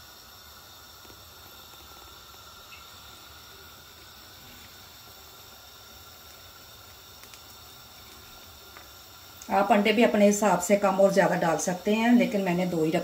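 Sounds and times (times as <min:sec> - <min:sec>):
soup simmering hiss: 0:00.0 - 0:13.0.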